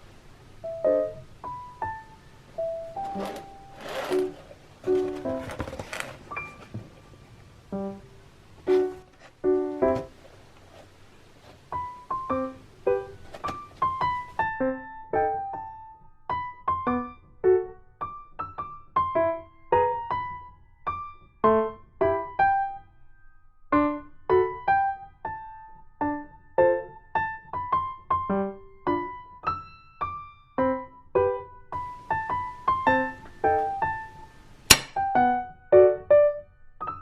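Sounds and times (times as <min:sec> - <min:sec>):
gentle electric piano melody: 0:00.0 - 0:03.8, 0:06.3 - 0:10.1, 0:11.7 - 0:22.9, 0:23.7 - 0:37.0.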